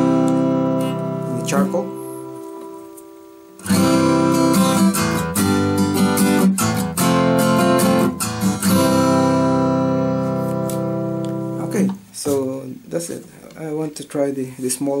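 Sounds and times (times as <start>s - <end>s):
acoustic guitar strumming: 0.0s - 12.5s.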